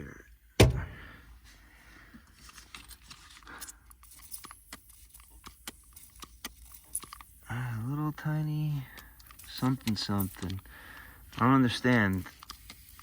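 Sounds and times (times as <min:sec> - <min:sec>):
handling clicks and crinkles: 0:02.1 - 0:13.0.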